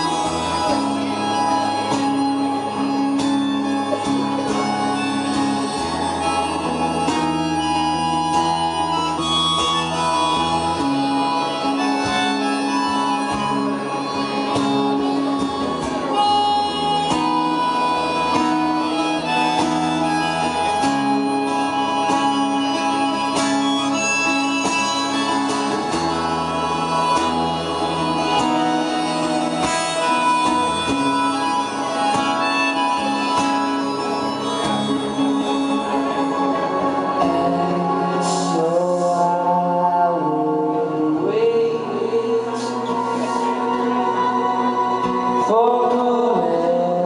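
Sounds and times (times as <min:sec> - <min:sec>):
acoustic guitar through effects: 0:00.0 - 0:47.0.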